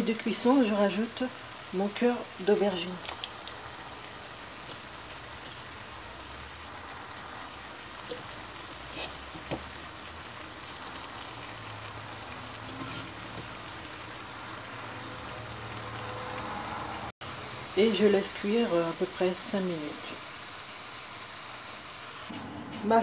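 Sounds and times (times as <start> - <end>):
meat sizzling in a frying pan: 0.0 - 22.3.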